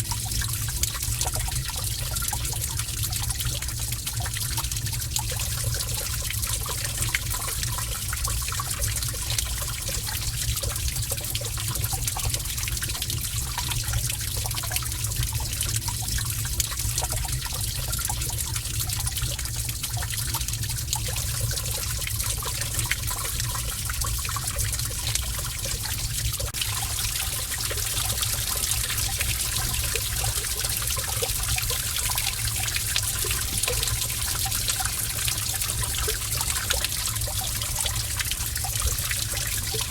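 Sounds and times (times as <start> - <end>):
water drips and splashes: 0.0 - 39.9
water trickling: 0.0 - 39.9.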